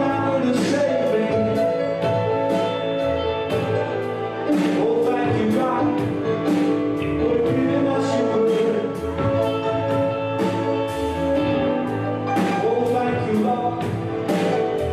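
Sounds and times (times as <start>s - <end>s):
drums and cymbals beat: 0.0s - 14.9s
person singing: 0.0s - 14.9s
sustained instruments: 0.0s - 14.9s.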